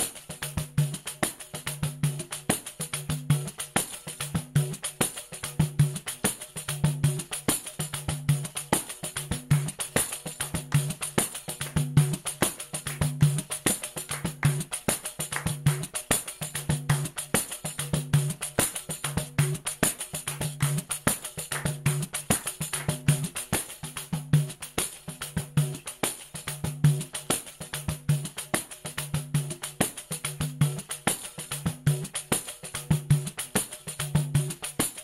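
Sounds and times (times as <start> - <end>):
instrumental music with fast beat: 0.0 - 35.0.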